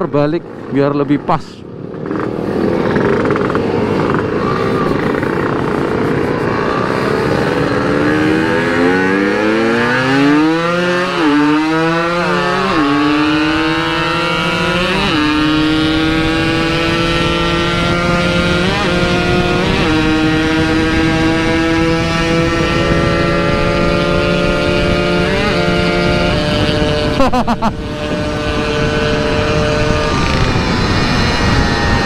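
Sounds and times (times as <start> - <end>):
two-stroke motorcycle accelerating: 0.0 - 32.0.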